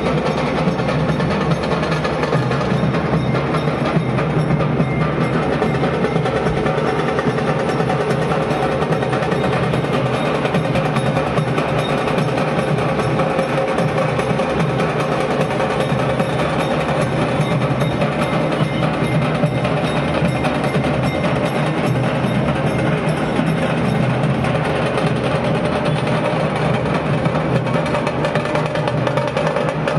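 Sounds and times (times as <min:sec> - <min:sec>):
fast procession drumming: 0:00.0 - 0:29.9.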